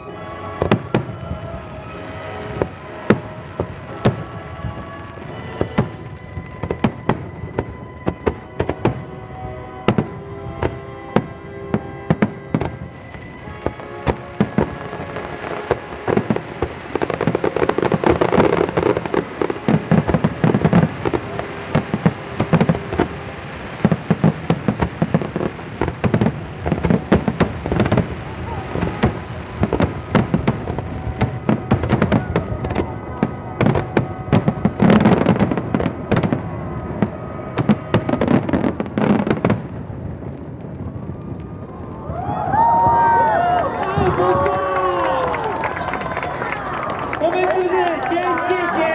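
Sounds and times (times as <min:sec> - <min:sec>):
music with sustained notes: 0:00.0 - 0:43.8
fireworks bangs: 0:00.0 - 0:48.9
fireworks crackling and popping: 0:00.0 - 0:48.9.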